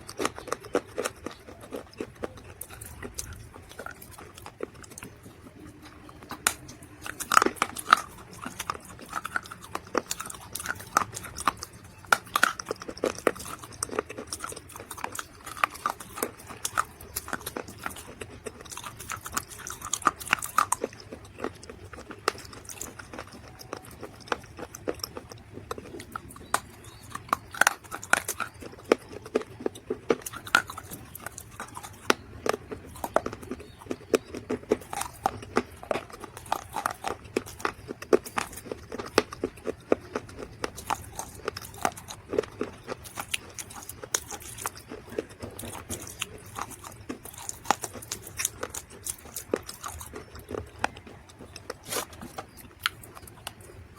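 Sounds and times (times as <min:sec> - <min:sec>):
dried mud crunching: 0:00.0 - 0:53.9.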